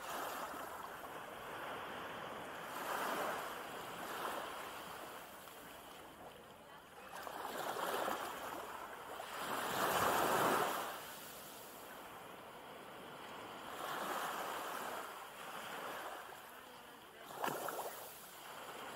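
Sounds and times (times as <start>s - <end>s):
small waves breaking on beach: 0.0s - 18.9s.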